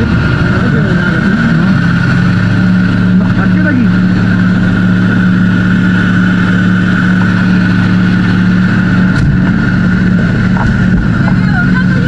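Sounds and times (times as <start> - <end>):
engine droning with whine: 0.0 - 12.0.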